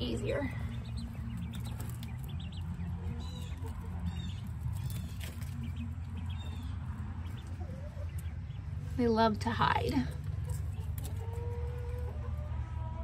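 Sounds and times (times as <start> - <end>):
quail chirping: 0.0 - 9.0, 10.3 - 12.5
steady low hum: 0.0 - 13.0.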